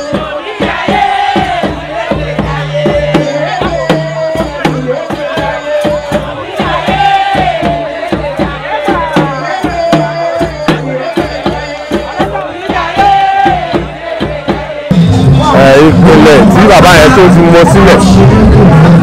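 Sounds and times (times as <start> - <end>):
party music with drum beat: 0.0 - 19.0.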